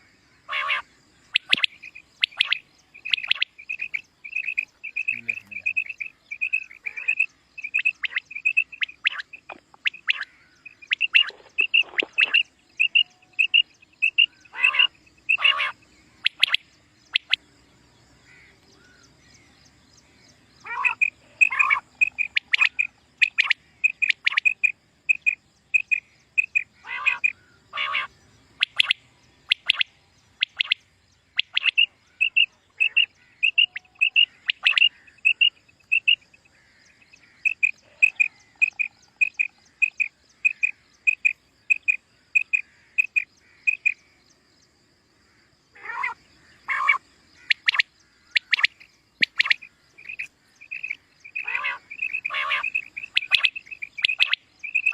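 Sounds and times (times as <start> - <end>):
louder wide-pitched quail calls: 0.0 - 17.4, 20.6 - 44.1, 45.3 - 54.9
quail calling: 0.0 - 17.4, 20.6 - 30.8, 31.4 - 44.0, 45.7 - 54.9.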